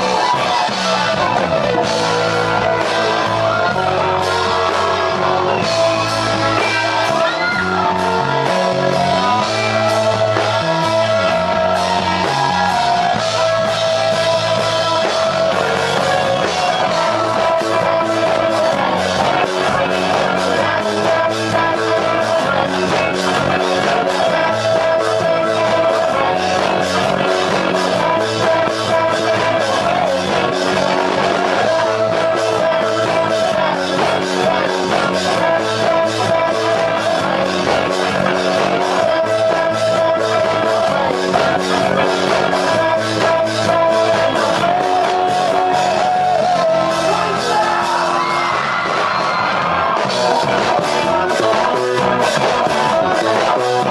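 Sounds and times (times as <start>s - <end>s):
bass guitar: 0.0s - 53.9s
electric guitar: 0.0s - 53.9s
person singing: 0.0s - 53.9s
steady drum beat: 0.0s - 53.9s
synthesizer: 0.0s - 53.9s.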